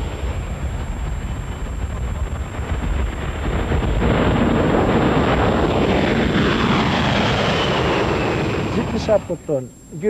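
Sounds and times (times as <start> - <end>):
jet aircraft roar overhead: 0.0 - 10.0
jet engine whine falling in pitch: 0.0 - 10.0.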